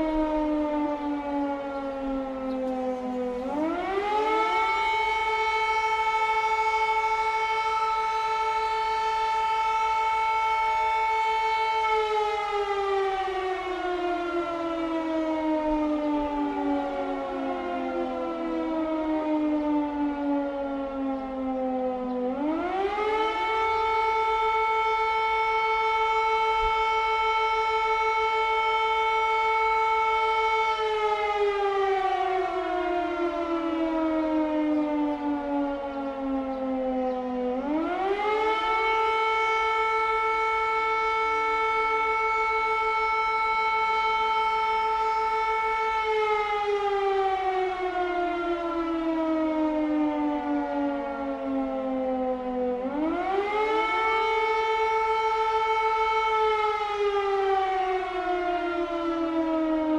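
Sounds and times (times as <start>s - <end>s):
air raid siren wailing: 0.0s - 59.9s.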